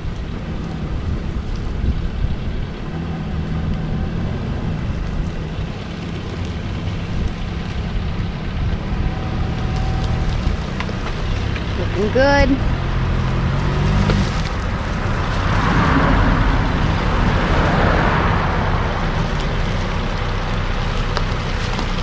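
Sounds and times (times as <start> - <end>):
car engine running: 0.0 - 22.0
wind noise on microphone: 0.0 - 22.0.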